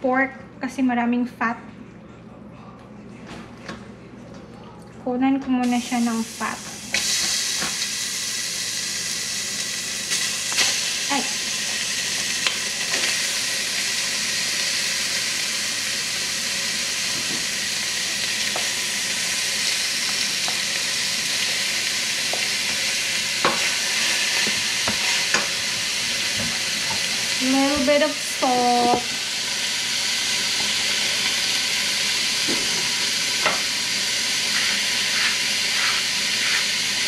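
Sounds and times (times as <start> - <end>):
meat sizzling in a pan: 5.6 - 37.0.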